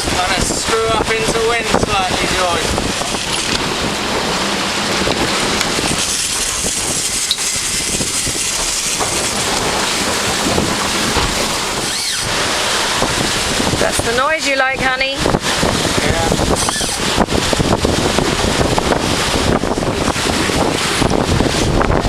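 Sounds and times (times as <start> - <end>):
water rushing past a hull: 0.0 - 22.0
wind buffeting microphone: 0.0 - 22.0.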